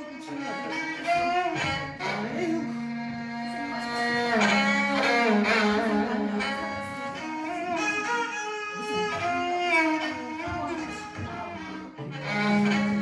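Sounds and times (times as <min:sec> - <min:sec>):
bowed string instrument melody: 0:00.0 - 0:13.0.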